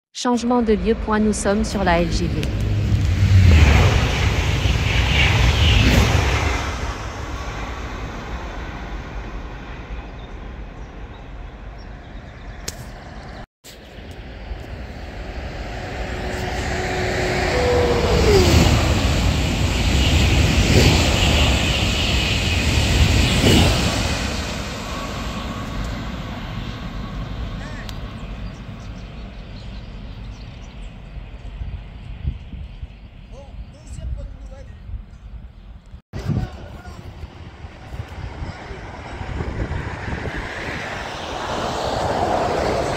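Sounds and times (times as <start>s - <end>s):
high-speed train passing: 0.3s - 33.2s, 36.2s - 42.9s.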